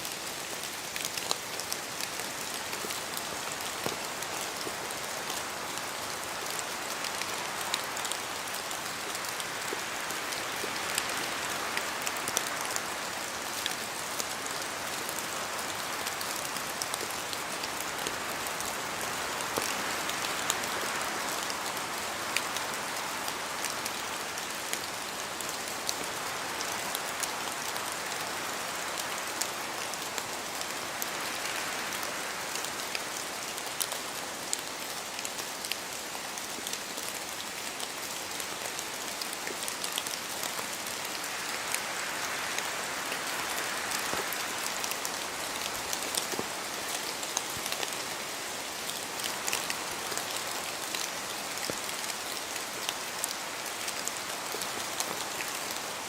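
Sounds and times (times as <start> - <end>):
steady rain in forest: 0.0 - 56.0.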